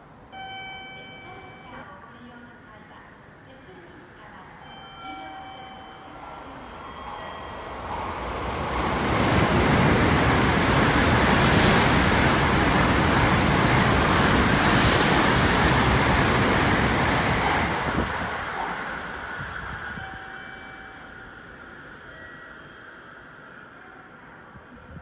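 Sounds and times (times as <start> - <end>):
high-speed train passing: 4.6 - 25.0.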